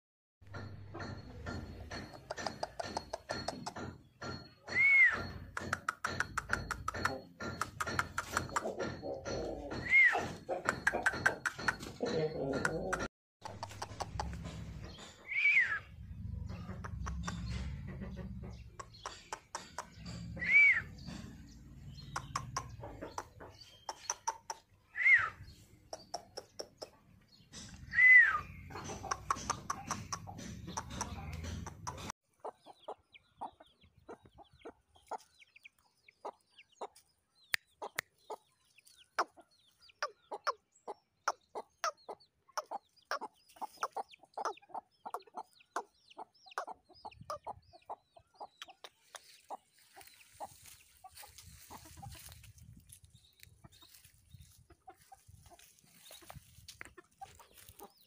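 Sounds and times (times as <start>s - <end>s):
chickens clucking: 0.5s - 58.0s.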